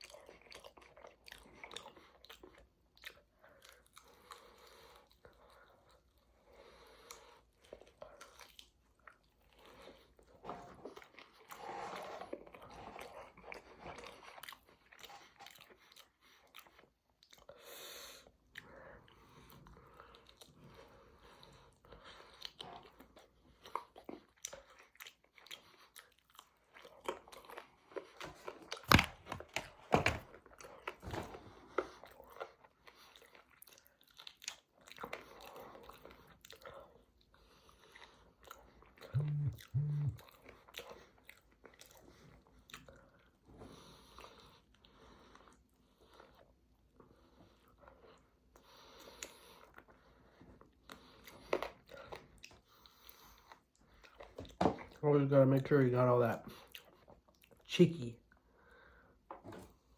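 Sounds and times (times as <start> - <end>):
wet chewing sounds: 0.0 - 59.0.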